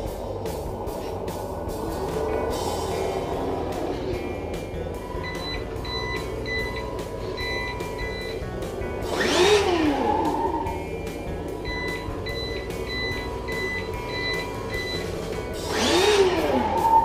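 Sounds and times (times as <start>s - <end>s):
simulated engine noise: 0.0s - 17.0s.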